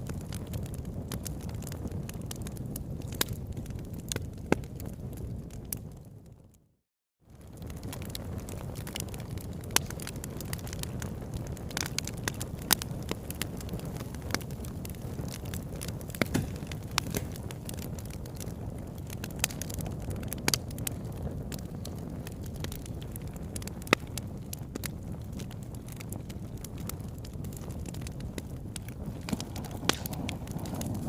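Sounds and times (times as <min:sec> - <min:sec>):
fire crackling: 0:00.0 - 0:06.7, 0:07.3 - 0:31.0.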